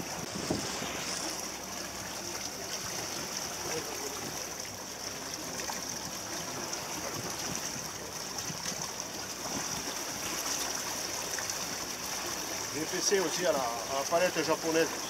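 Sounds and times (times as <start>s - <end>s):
water rushing past boat hull: 0.0s - 15.0s.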